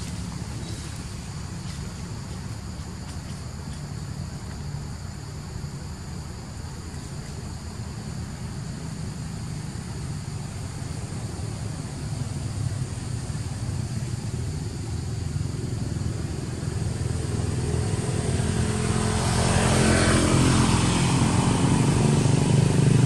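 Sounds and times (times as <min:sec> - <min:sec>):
continuous low rumble: 0:00.0 - 0:23.0
insects trilling: 0:00.0 - 0:23.0.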